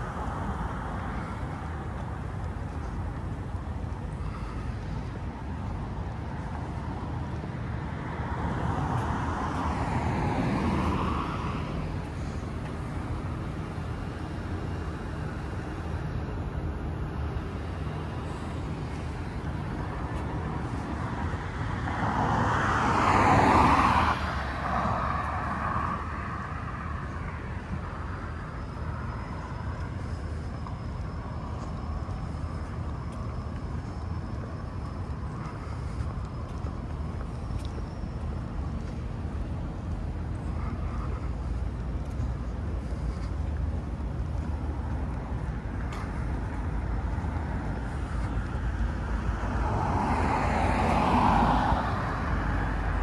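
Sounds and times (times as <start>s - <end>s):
road traffic rumble: 0.0s - 53.0s
vehicles passing: 0.0s - 53.0s.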